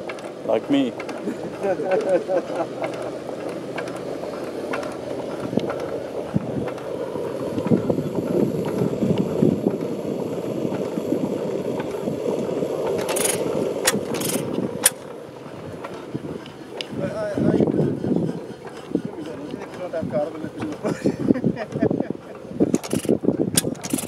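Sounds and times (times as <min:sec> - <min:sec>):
oil engine clattering: 0:00.0 - 0:24.0.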